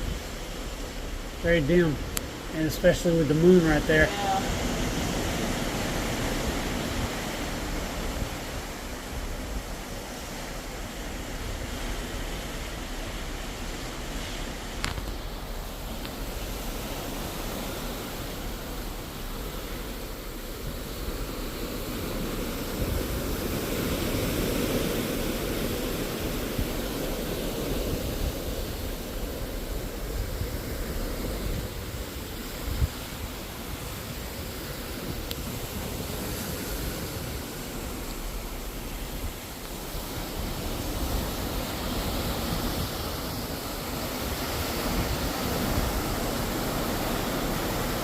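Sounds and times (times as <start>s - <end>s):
sea rushing: 0.0s - 48.0s
wind: 0.0s - 48.0s.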